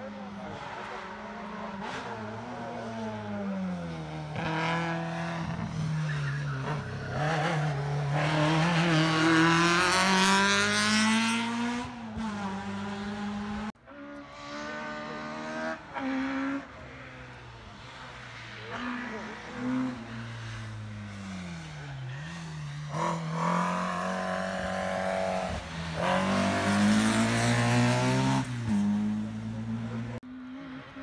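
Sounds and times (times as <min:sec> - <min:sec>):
race car engine revving: 0:00.3 - 0:30.2.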